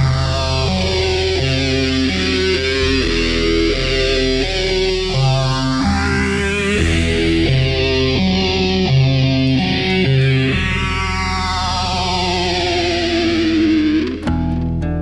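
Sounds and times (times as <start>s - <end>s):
bass: 0.0s - 15.0s
distorted electric guitar: 0.0s - 15.0s.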